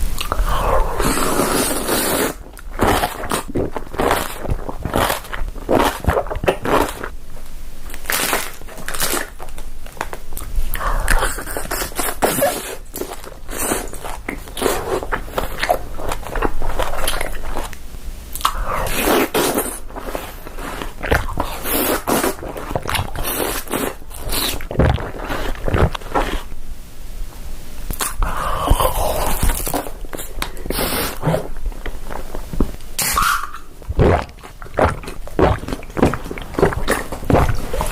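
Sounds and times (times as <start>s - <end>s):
person crunching and chewing food: 0.0s - 7.2s, 7.8s - 26.6s, 27.9s - 37.9s.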